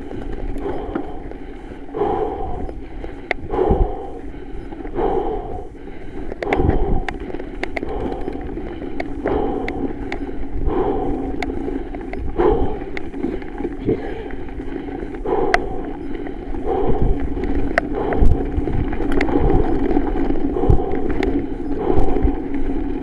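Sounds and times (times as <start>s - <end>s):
clicks and knocks over bumps: 0.0s - 1.9s, 5.8s - 23.0s
bike rattling: 0.0s - 23.0s
bike tyres rolling over dirt: 0.0s - 23.0s
rush of noise: 0.6s - 23.0s.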